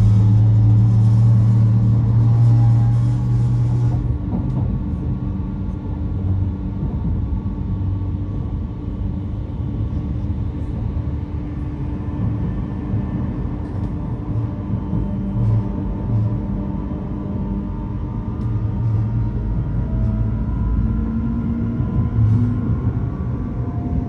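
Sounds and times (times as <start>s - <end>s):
low hum: 0.0s - 24.0s
train rumbling: 0.0s - 24.0s.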